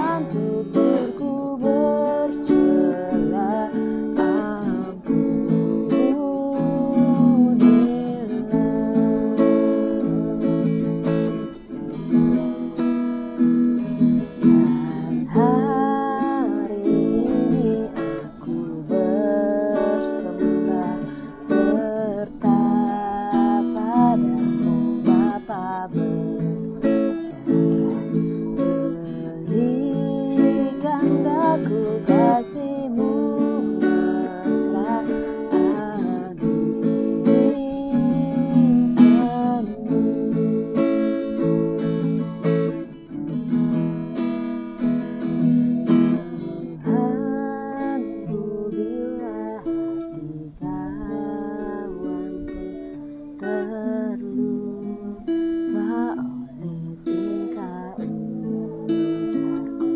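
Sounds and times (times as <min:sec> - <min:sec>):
person singing a hymn: 0:00.0 - 0:12.4, 0:14.0 - 0:42.9, 0:45.3 - 0:59.9
strummed acoustic guitar: 0:00.0 - 0:59.9.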